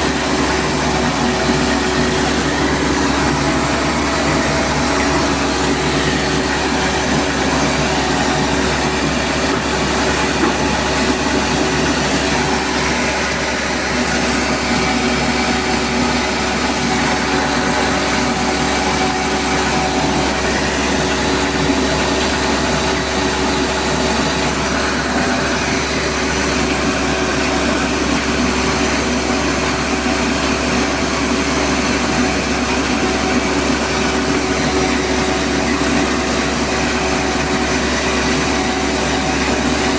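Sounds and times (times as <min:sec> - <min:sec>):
rice milling machine running: 0:00.0 - 0:39.9
steady machine hum: 0:00.0 - 0:39.9.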